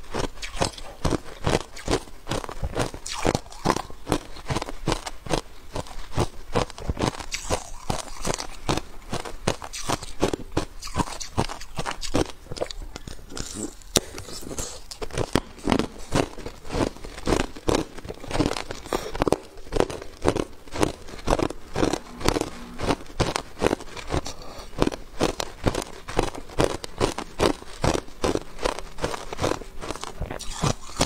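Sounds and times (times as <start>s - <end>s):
ice crunched between teeth: 0.2s - 31.0s.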